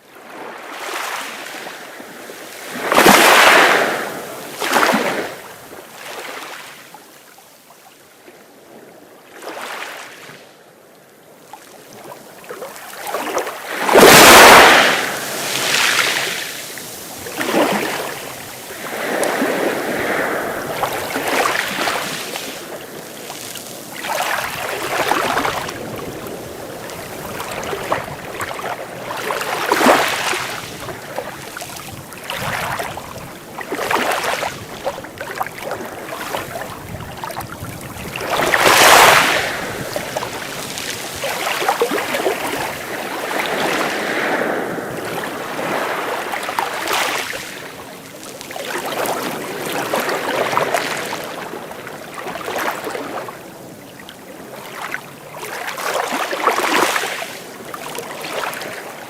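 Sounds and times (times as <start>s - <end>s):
sea waves washing ashore: 0.0s - 7.7s, 11.3s - 59.0s.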